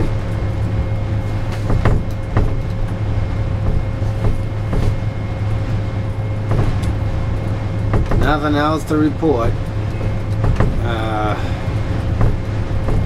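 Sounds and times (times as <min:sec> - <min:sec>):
faint steady hum: 0:00.0 - 0:13.0
loud wind buffeting: 0:00.0 - 0:13.0
structure knocking and rattling: 0:00.0 - 0:13.0.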